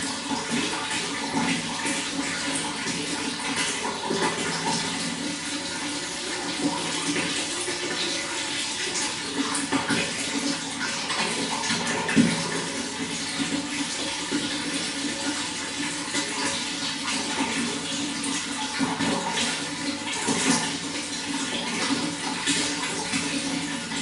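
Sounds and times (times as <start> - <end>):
running water flowing: 0.0 - 24.0.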